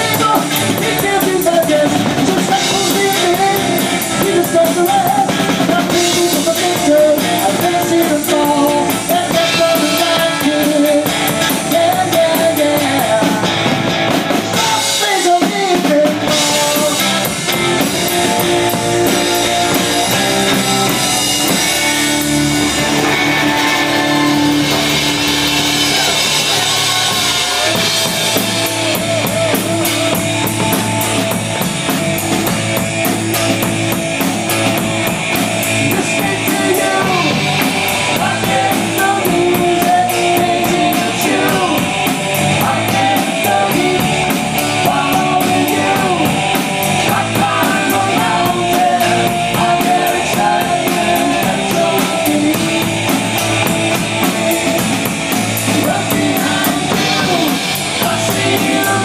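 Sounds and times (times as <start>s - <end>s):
drum kit: 0.0s - 59.0s
electric bass: 0.0s - 59.0s
electric guitar: 0.0s - 59.0s.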